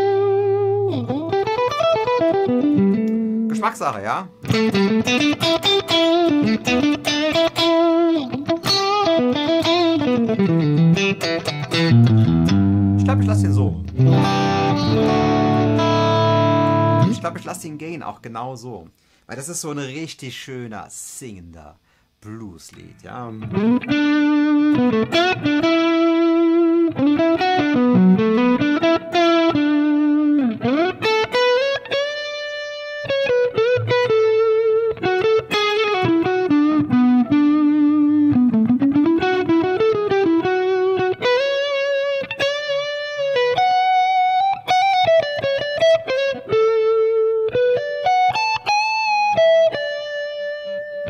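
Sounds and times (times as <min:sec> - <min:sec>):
electric guitar blues lead: 0:00.0 - 0:18.0, 0:22.7 - 0:51.0.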